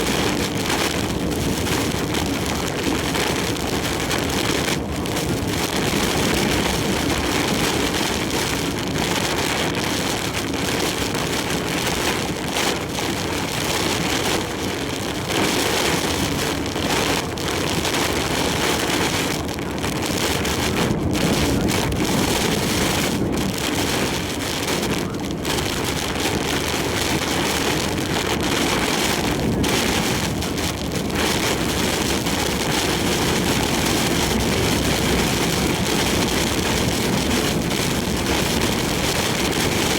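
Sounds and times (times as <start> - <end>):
heavy rain and wind on truck cab: 0.0 - 39.9
tyre and road noise: 0.0 - 39.9.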